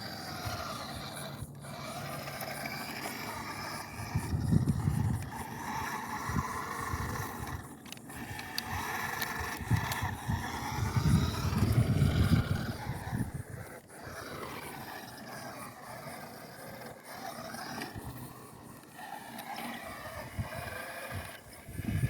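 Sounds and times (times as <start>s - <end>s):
toy car electric motor whining: 0.0s - 22.0s.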